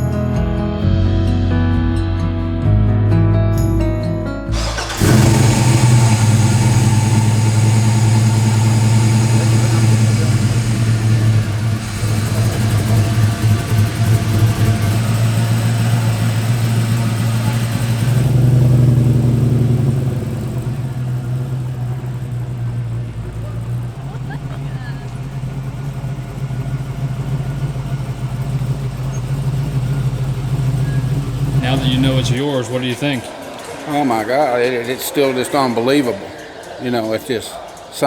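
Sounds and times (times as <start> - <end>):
truck engine starting and running: 0.0 - 37.8.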